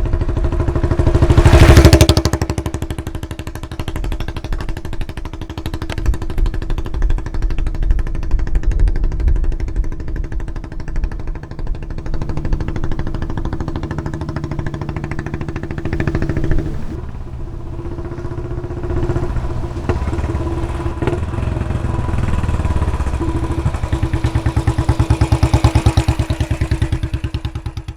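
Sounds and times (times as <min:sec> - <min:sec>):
motorcycle engine exhaust thumping: 0:00.0 - 0:27.9.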